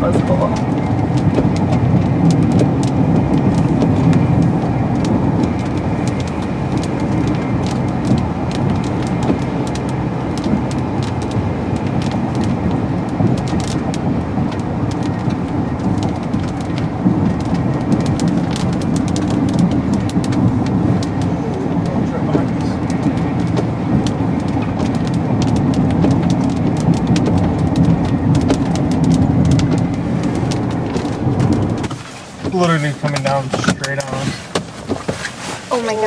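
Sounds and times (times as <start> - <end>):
car road and engine noise: 0.0 - 36.0
rain ticking on windshield: 0.0 - 36.0.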